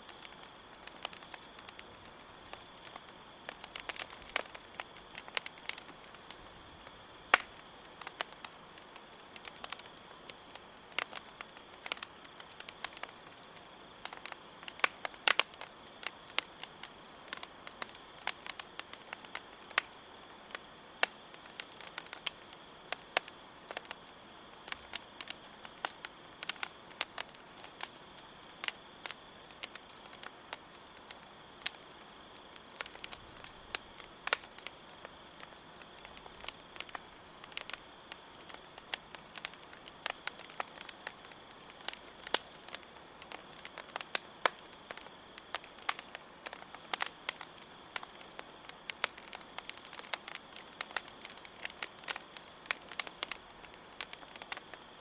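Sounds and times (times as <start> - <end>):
campfire crackling and popping: 0.0 - 55.0
crickets chirring: 0.0 - 55.0.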